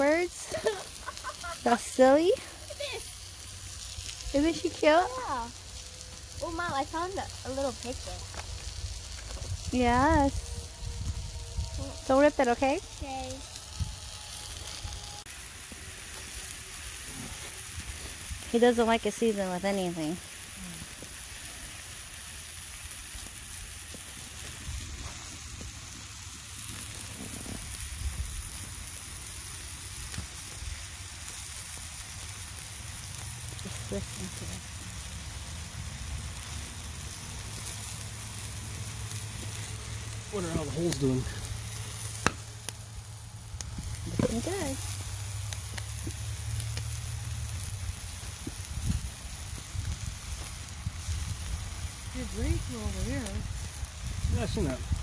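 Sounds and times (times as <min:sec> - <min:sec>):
pork sizzling in a pan: 0:00.0 - 0:55.0
sharp pops and crackles: 0:00.0 - 0:55.0.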